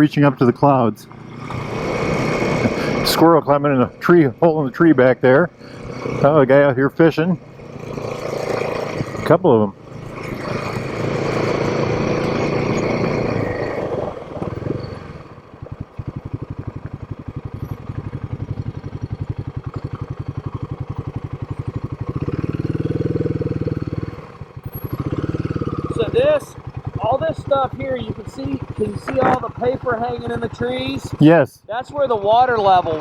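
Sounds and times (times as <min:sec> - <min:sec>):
motorcycle engine pulsing: 0:00.0 - 0:33.0.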